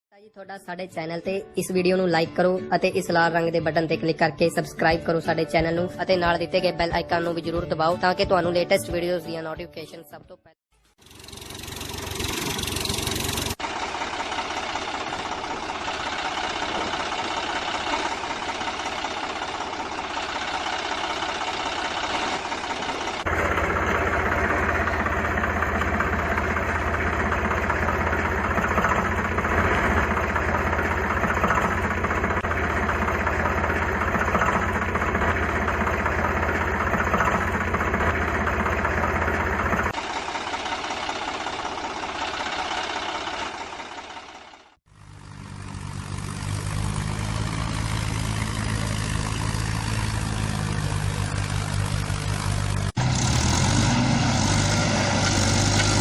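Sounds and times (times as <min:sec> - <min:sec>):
engine running with knocking beat: 0:10.9 - 0:56.0.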